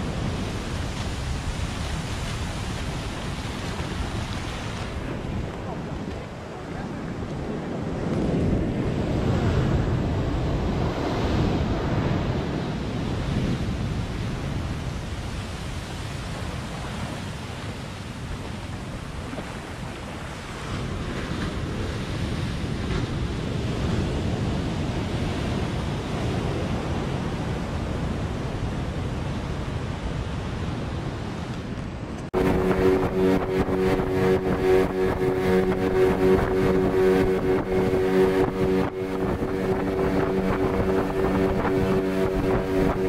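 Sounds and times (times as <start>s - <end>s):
ocean surf breaking on beach: 0.0s - 43.0s
wind on microphone: 0.0s - 43.0s.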